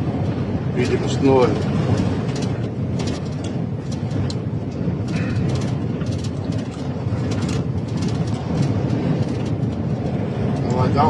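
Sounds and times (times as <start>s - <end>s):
road and wind rumble: 0.0s - 11.0s.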